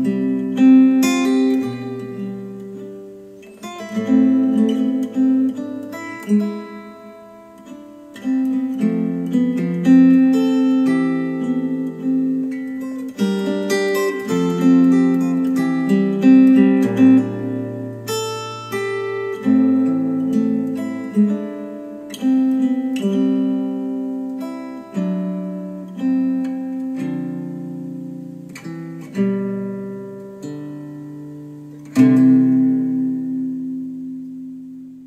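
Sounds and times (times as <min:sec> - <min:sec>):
acoustic guitar chords: 0:00.0 - 0:35.0.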